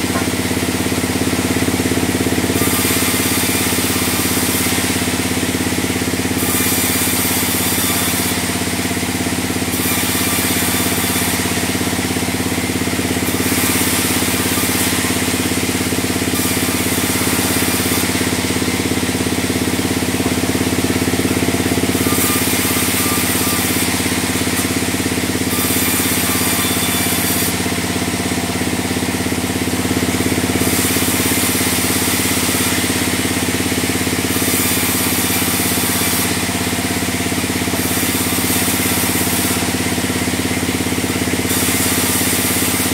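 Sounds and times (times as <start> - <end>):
band saw machine hum: 0.0 - 42.9
saw blade hissing through log: 0.0 - 42.9.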